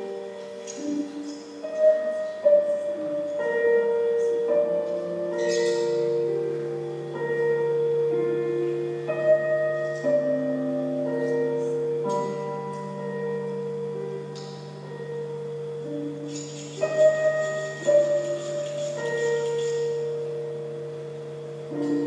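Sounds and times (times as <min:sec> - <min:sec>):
slow instrumental music: 0:00.0 - 0:22.0.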